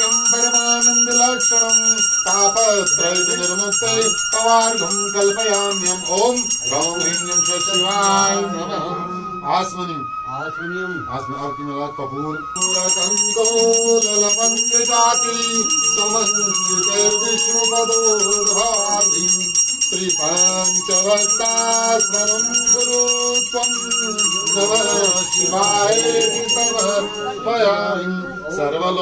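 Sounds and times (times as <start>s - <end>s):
hand bell ringing rapidly: 0.0s - 8.5s, 12.6s - 27.4s
man chanting: 0.0s - 29.0s.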